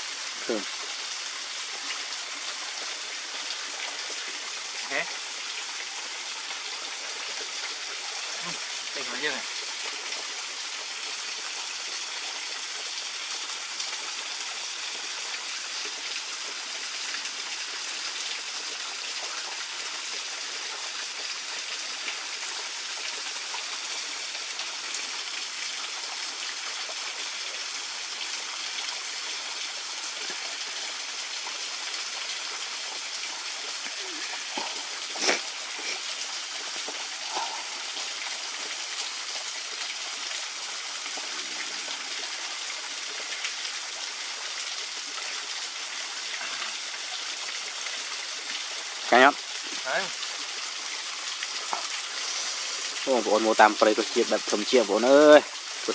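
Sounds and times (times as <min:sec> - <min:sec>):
waterfall splashing: 0:00.0 - 0:55.9.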